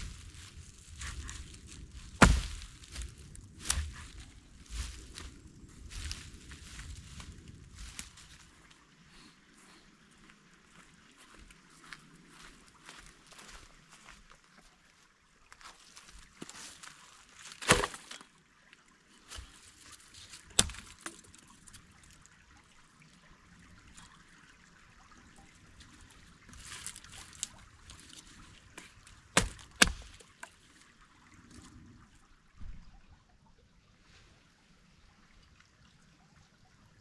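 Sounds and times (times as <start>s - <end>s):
water trickling: 0.0s - 37.0s.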